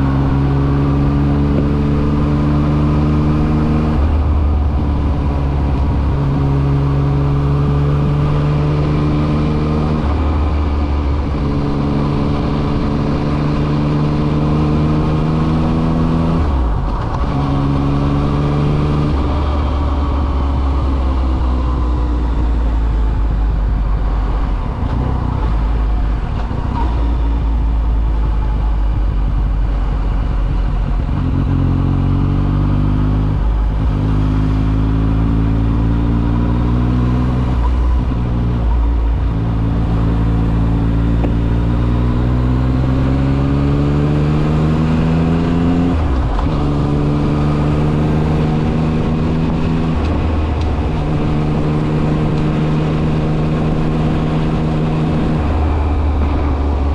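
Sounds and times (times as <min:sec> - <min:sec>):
motorcycle engine with gear changes: 0:00.0 - 0:56.9
wind and road noise: 0:00.0 - 0:56.9.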